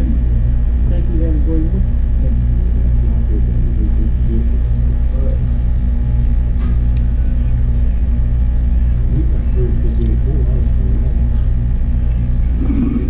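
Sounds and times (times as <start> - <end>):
low hum and rumble: 0.0 - 13.0
faint voices: 0.9 - 13.0.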